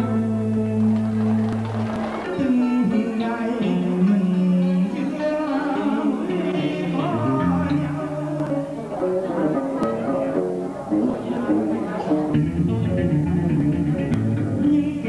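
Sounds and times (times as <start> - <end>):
man singing slow melody: 0.0 - 1.6, 2.3 - 10.5, 12.6 - 15.0
instrumental accompaniment: 0.0 - 15.0.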